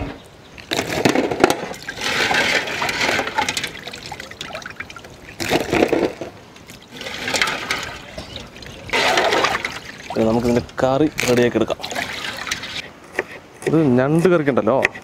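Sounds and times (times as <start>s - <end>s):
water splashing and dripping: 0.6s - 12.8s.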